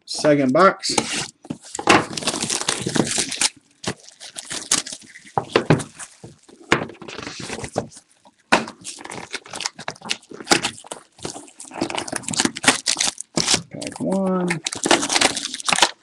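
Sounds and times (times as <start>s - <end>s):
cardboard clicks and crackles: 0.9s - 16.0s
plastic wrap tearing: 1.0s - 16.0s
wrapper crinkling: 1.1s - 16.0s.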